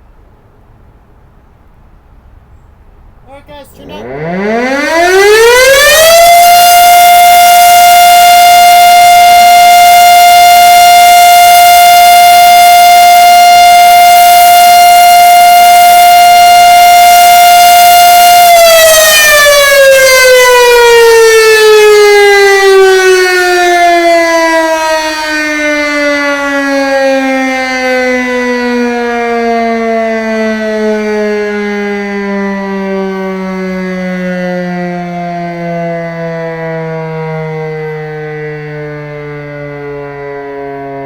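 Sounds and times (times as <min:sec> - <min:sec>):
outdoor warning siren: 0:03.3 - 0:41.0.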